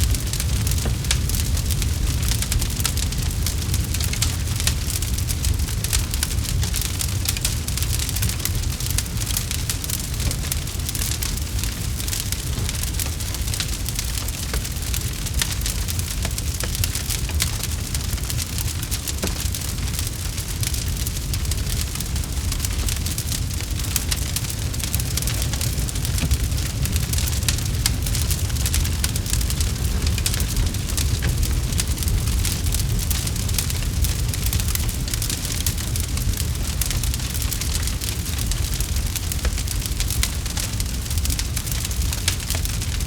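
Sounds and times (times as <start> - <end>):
campfire crackling: 0.0 - 43.0.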